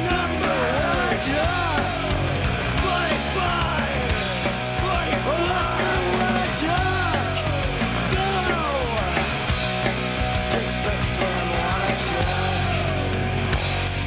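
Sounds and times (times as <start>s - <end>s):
distorted guitar lead line: 0.0s - 14.0s
punk rock music: 0.0s - 14.0s.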